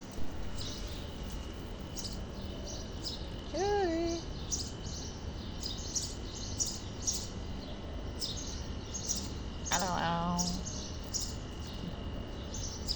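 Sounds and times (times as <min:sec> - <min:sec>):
birds chirping: 0:00.4 - 0:01.2, 0:01.9 - 0:12.9.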